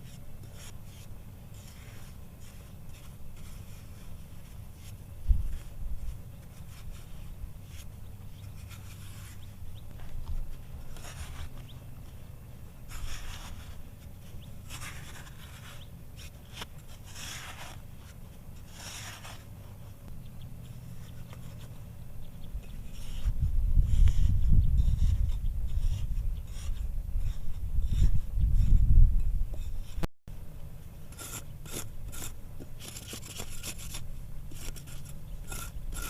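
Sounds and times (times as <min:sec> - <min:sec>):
scraping strokes: 0:00.0 - 0:22.0, 0:22.6 - 0:30.1, 0:31.1 - 0:36.0
steady low rumble: 0:00.0 - 0:32.6.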